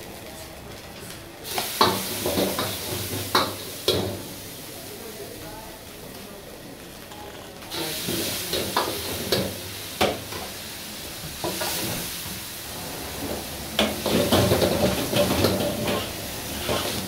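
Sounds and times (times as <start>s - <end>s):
hot oil sizzling in a wok: 0.0s - 6.2s, 7.7s - 17.0s.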